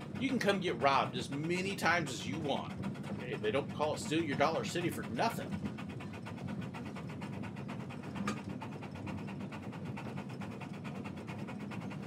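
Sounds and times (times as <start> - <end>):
train car rumbling and clattering: 0.0 - 12.0.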